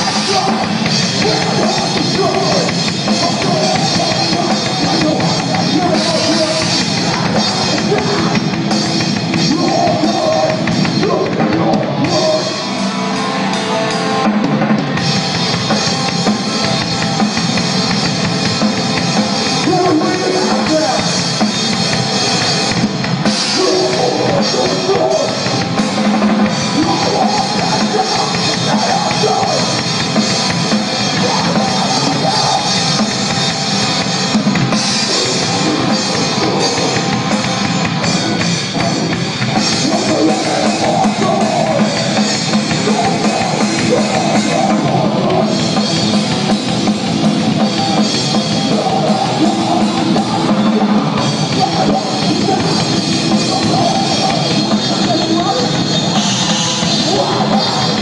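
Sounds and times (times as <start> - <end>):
drum kit: 0.0 - 58.0
live rock band playing: 0.0 - 58.0.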